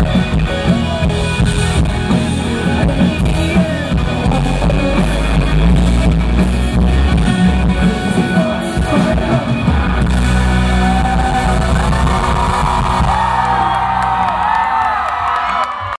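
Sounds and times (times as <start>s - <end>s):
live rock band playing: 0.0s - 15.6s.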